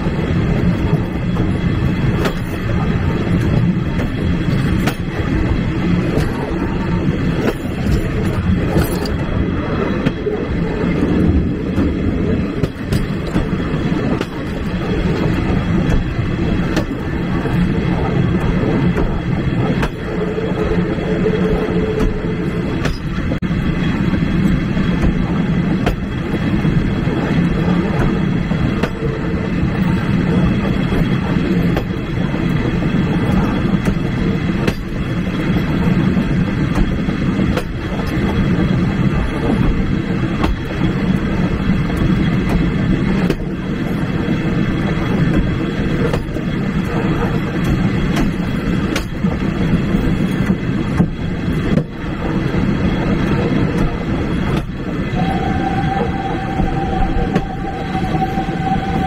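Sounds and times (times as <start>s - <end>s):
wheels clicking over rail joints: 0.0s - 23.4s, 24.0s - 59.0s
train wheels rumbling on rail: 0.0s - 59.0s.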